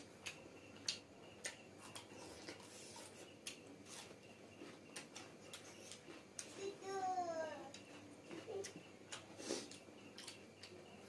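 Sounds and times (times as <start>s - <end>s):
people chewing and lip smacking: 0.0s - 6.6s, 7.6s - 11.0s.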